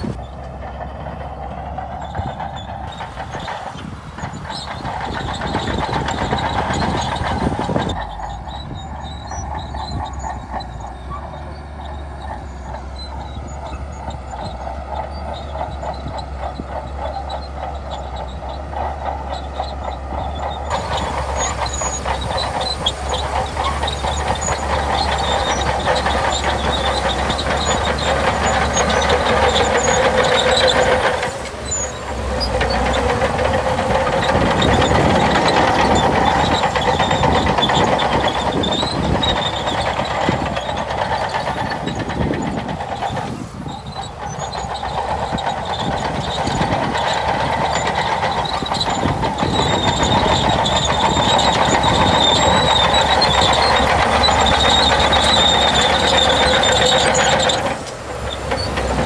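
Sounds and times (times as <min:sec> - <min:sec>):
bulldozer diesel engine running: 0:00.0 - 0:59.0
steel tracks running: 0:01.2 - 0:59.0.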